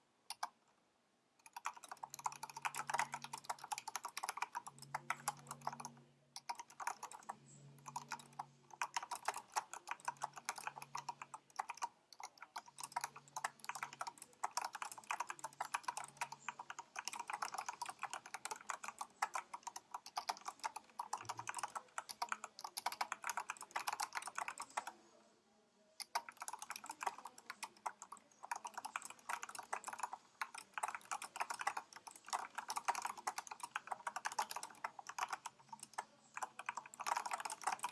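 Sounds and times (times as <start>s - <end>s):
mechanical keyboard typing: 0.3s - 0.6s, 1.4s - 25.0s, 26.0s - 37.9s.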